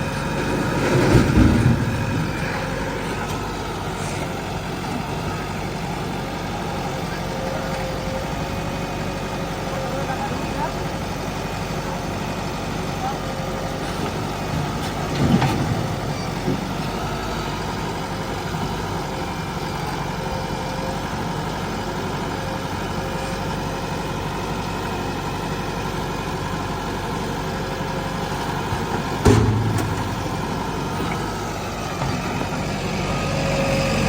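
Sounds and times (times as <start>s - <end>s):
heavy diesel engines idling: 0.0s - 34.0s.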